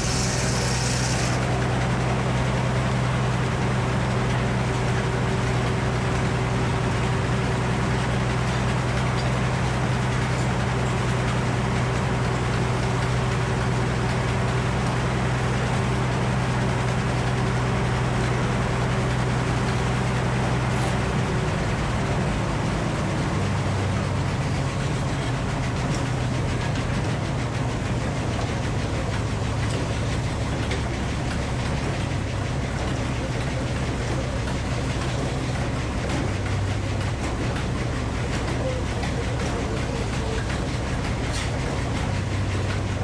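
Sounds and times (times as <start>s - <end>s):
sawmill running: 0.0s - 43.0s.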